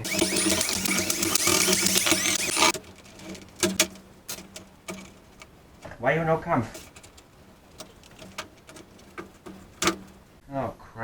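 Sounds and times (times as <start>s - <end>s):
screwdriver squeaking and grinding: 0.0s - 5.9s, 6.7s - 10.4s.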